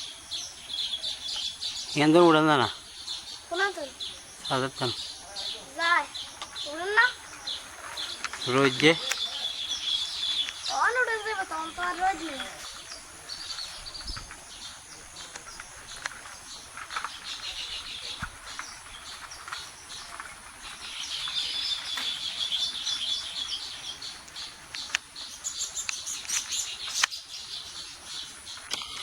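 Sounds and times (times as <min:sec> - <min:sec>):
birds chattering: 0:00.0 - 0:29.0.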